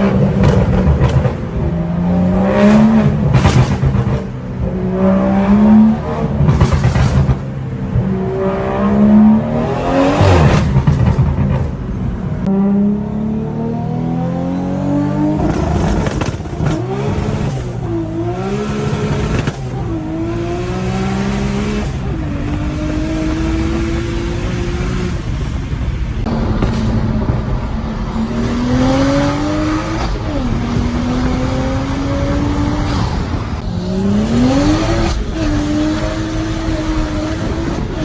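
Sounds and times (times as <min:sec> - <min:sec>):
car engine revving and accelerating: 0:00.0 - 0:38.0.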